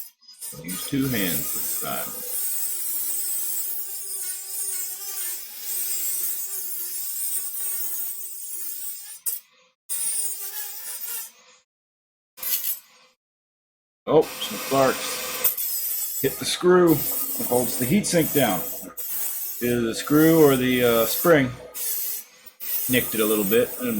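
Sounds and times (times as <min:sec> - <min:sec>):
rotary tool cutting metal: 0:00.0 - 0:11.3, 0:14.3 - 0:23.9.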